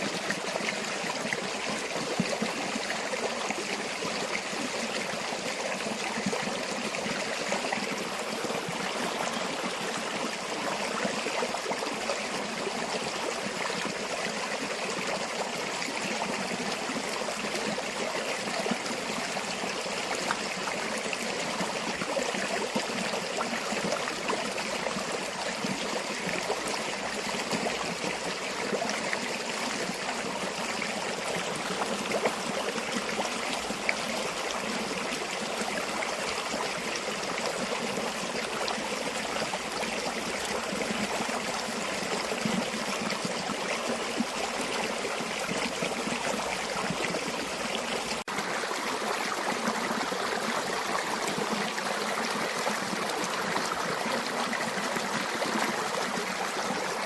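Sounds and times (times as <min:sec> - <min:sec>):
water flowing over stones: 0:00.0 - 0:57.0.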